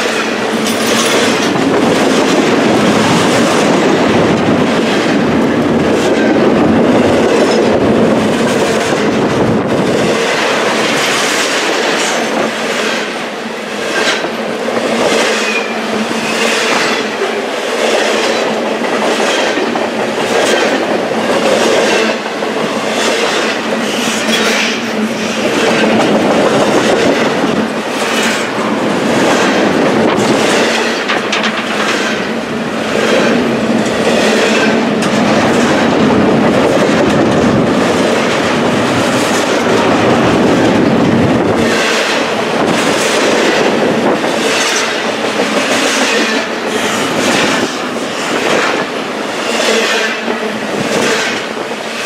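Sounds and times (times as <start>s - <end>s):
train rumbling past: 0.0s - 52.0s
train wheels clacking over rail joints: 0.0s - 52.0s.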